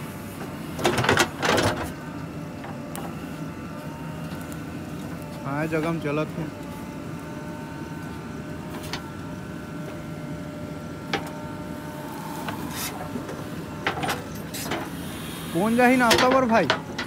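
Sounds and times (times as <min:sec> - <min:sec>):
diesel engine running: 0:00.0 - 0:17.0
thin steady whine: 0:02.0 - 0:17.0.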